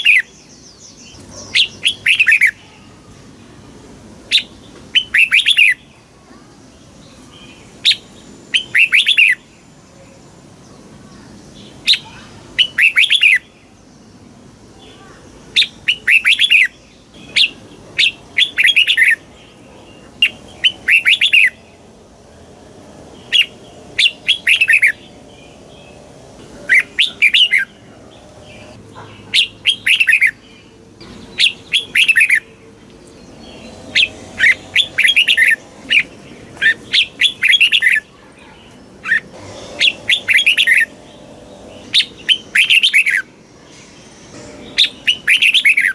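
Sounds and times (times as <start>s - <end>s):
bird singing warbled phrases: 0.0s - 45.9s.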